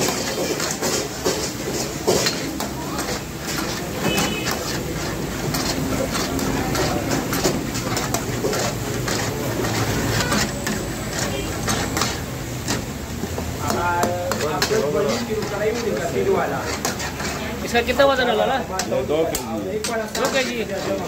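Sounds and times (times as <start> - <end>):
metal spatula scraping a pan: 0.0 - 19.1, 19.8 - 21.0
curry sizzling and bubbling: 0.0 - 21.0.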